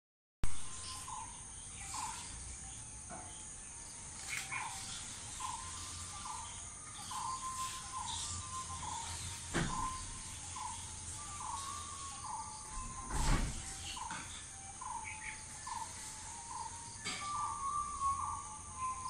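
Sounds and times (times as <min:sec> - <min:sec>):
high insect drone: 0:00.5 - 0:19.0.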